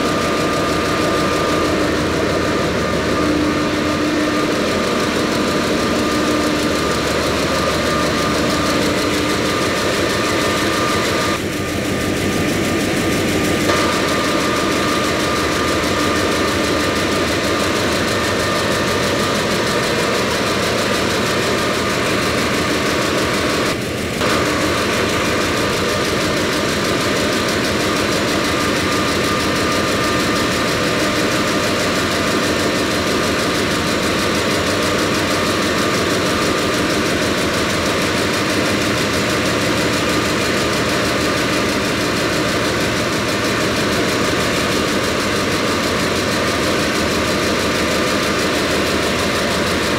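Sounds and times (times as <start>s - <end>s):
large engine running: 0.0s - 49.9s.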